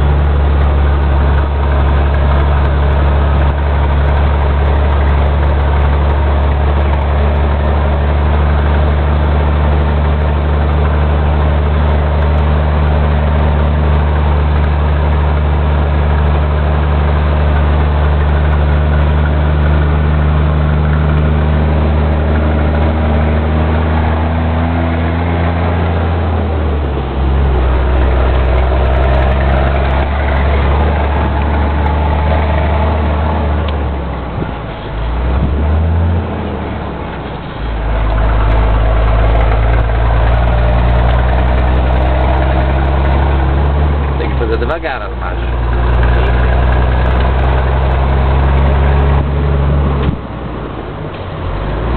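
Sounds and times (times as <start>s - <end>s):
truck diesel engine drone: 0.0s - 51.9s.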